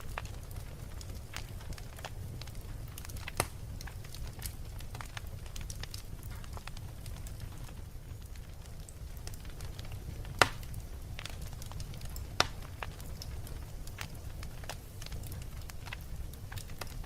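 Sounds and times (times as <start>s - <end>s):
loud fire pops: 0.0s - 17.0s
wood fire crackling: 0.0s - 17.0s.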